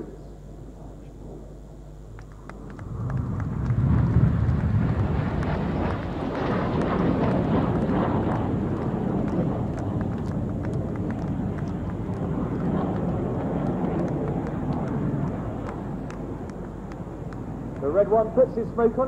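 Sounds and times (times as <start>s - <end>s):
jet engines roaring: 0.0s - 19.0s
wind rumbling on microphone: 2.1s - 19.0s.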